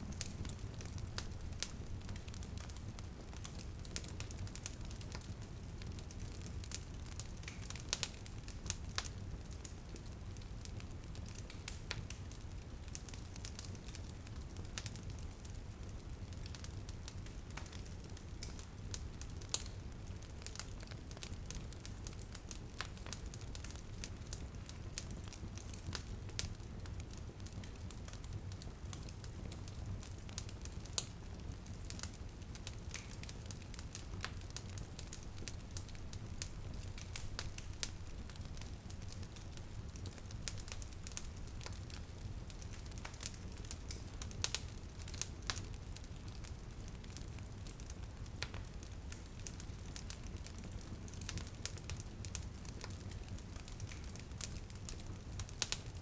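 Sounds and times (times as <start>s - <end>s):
light rain on a window: 0.0s - 56.0s
wood fire crackling: 0.0s - 56.0s.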